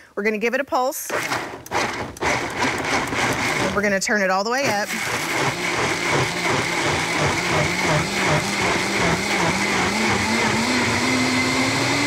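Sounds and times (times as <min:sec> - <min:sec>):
blender running: 0:01.1 - 0:04.0, 0:04.6 - 0:12.0.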